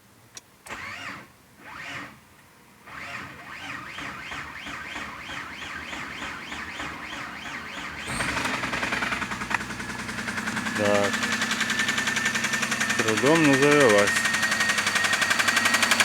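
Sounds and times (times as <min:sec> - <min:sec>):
engine cranking on starter: 0:00.6 - 0:02.2, 0:02.8 - 0:16.0
engine starting and running: 0:00.6 - 0:02.2, 0:02.8 - 0:16.0.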